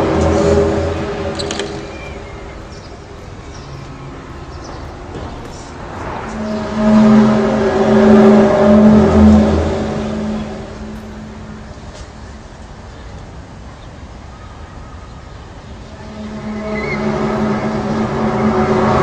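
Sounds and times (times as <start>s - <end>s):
low droning horn-like tone: 0.0s - 12.3s, 15.8s - 19.0s.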